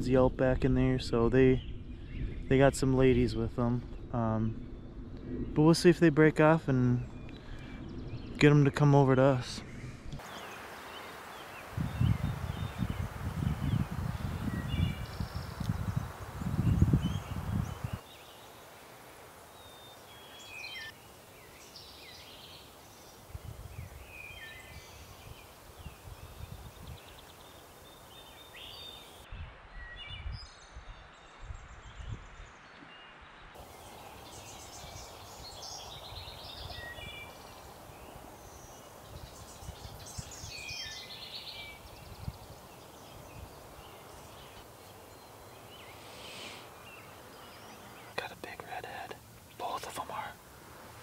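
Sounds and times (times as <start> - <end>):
songbirds chirping and trilling: 0.0 - 51.0.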